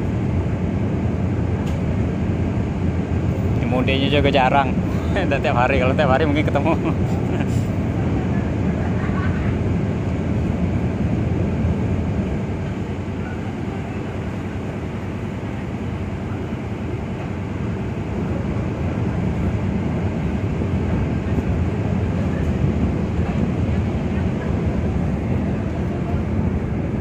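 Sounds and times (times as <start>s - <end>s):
ship engines rumbling: 0.0s - 27.0s.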